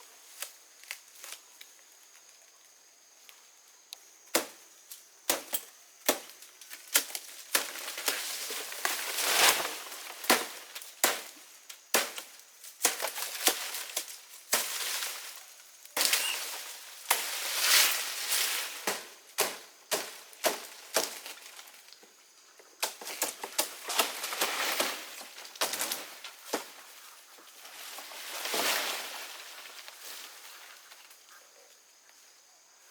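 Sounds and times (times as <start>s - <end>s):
leaves and stems rustling and snapping: 0.3s - 2.4s, 4.3s - 22.0s, 22.8s - 26.9s, 27.6s - 31.2s.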